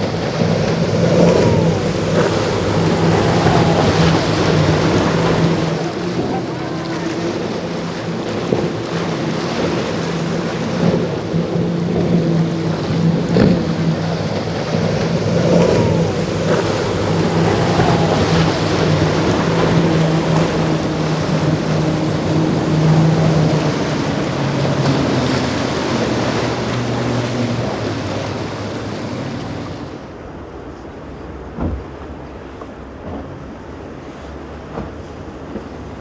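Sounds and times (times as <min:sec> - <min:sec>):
wind on microphone: 0:00.0 - 0:30.1
motorboat engine running: 0:00.0 - 0:30.6
waves rushing: 0:00.0 - 0:36.0.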